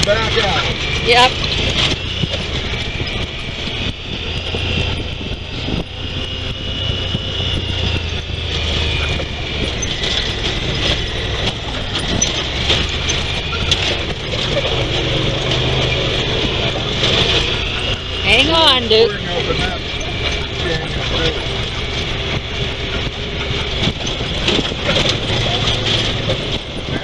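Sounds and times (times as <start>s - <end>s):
utility vehicle engine running: 0.0s - 27.0s.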